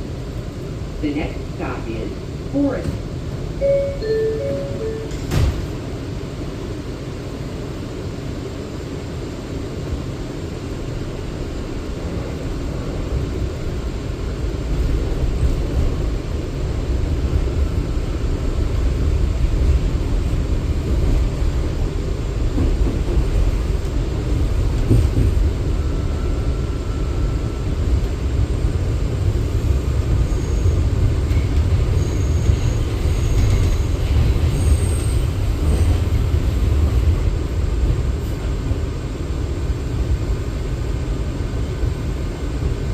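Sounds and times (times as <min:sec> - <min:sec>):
subway car rumbling on rails: 0:00.0 - 0:42.9.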